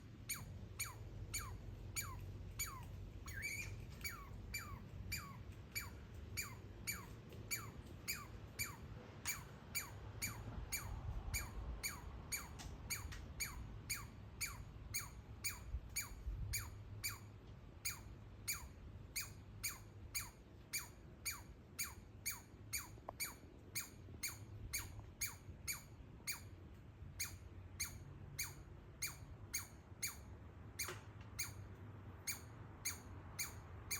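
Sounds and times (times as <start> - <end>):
baby squirrel chirping: 0.2 - 33.9.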